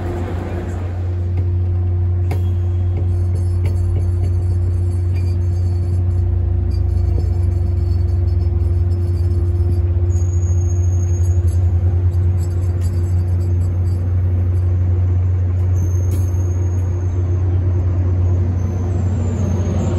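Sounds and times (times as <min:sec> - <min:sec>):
train diesel drone and rumble: 0:00.0 - 0:19.9
high squeal: 0:02.3 - 0:19.9.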